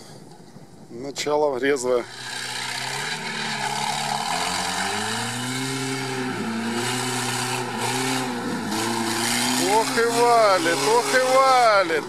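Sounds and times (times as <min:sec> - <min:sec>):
off-road vehicle engine revving hard: 0:02.0 - 0:12.0.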